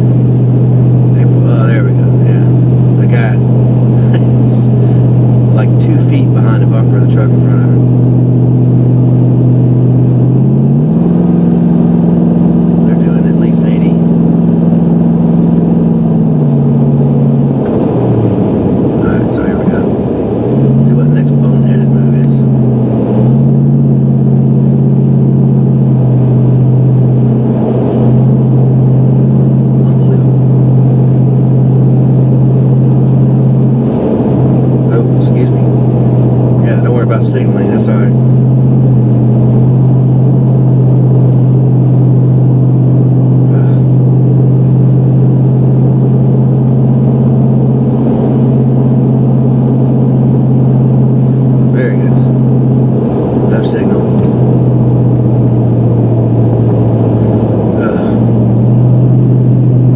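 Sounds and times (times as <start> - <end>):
motor vehicle engine droning: 0.0 - 59.9.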